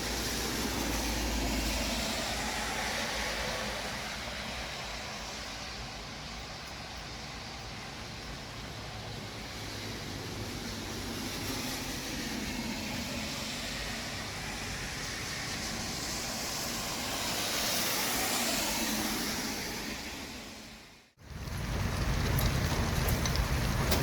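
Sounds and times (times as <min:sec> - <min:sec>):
cars passing: 0:00.0 - 0:24.0
hiss of traffic: 0:00.0 - 0:24.0.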